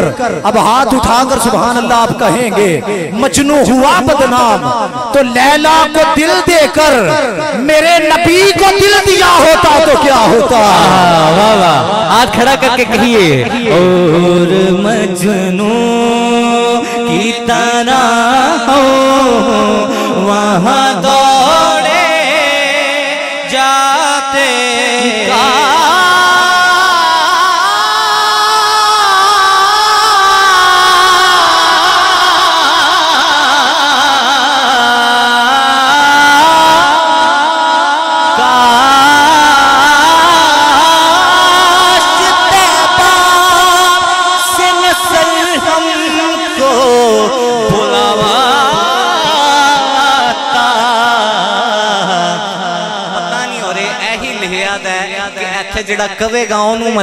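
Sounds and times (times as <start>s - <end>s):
man singing into microphone: 0.0s - 57.0s.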